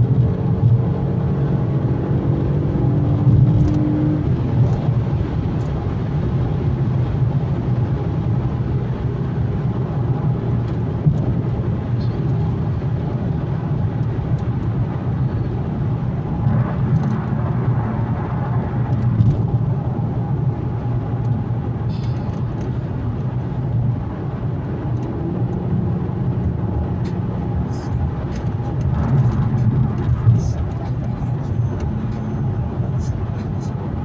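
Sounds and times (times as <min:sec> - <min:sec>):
car engine drone: 0:00.0 - 0:34.0
tyre and road noise: 0:00.0 - 0:34.0.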